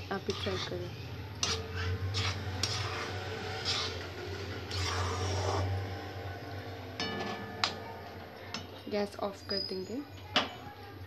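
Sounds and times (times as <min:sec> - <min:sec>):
spatula scraping in a pan: 0:00.0 - 0:09.9.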